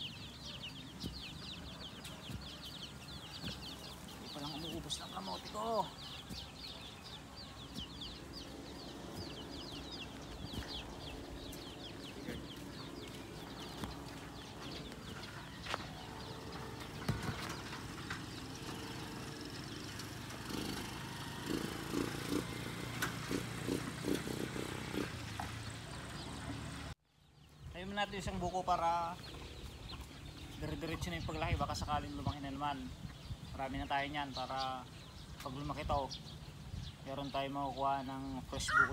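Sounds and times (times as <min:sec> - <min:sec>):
chicks peeping: 0:00.0 - 0:22.5, 0:27.3 - 0:38.9.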